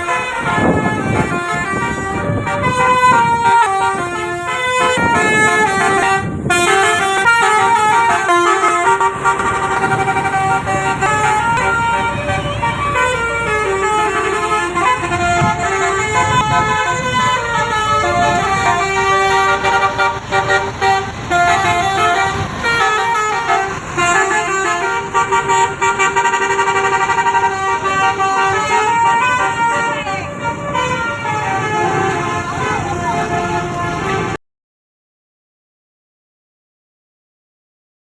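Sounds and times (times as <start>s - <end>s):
bus air horn playing a tune: 0.0s - 34.4s.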